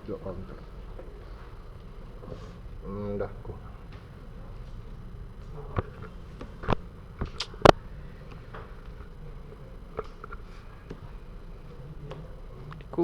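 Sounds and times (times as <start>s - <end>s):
faint room noise: 0.0s - 13.0s.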